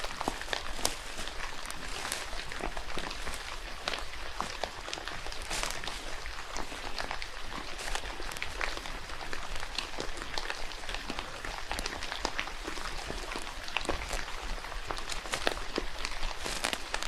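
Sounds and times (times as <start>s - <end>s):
rain falling in a forest: 0.0s - 17.0s.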